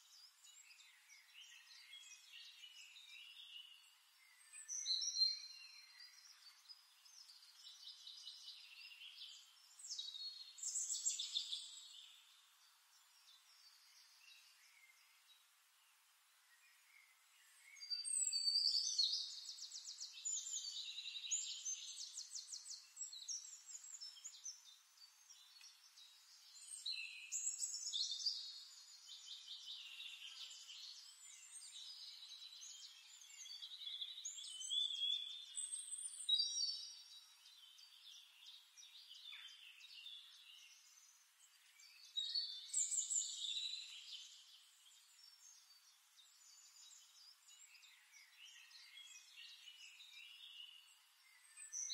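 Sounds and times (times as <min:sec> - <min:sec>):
birds singing with trills: 0:00.0 - 0:15.4, 0:16.6 - 0:51.9.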